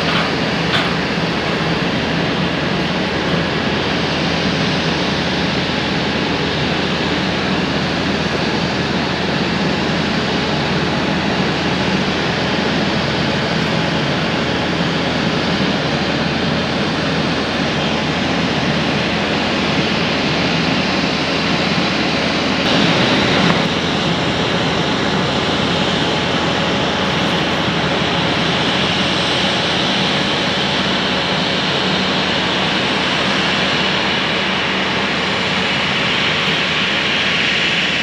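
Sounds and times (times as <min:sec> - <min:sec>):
jet engines rushing hiss: 0:00.0 - 0:38.0.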